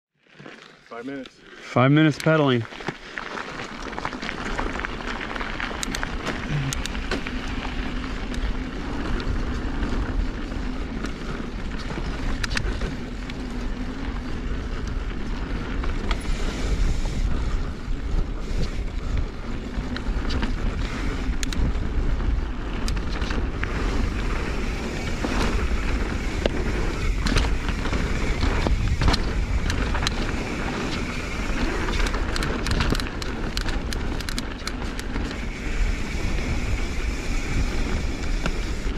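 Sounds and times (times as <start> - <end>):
bike tyres rolling on dirt: 0.1 - 38.9
bike clicks and rattles: 0.2 - 38.9
wind on microphone: 6.2 - 38.9.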